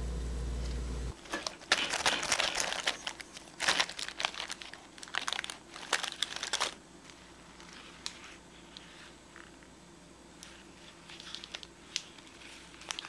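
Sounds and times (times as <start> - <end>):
baking parchment crinkling: 1.1 - 9.6, 10.8 - 13.0.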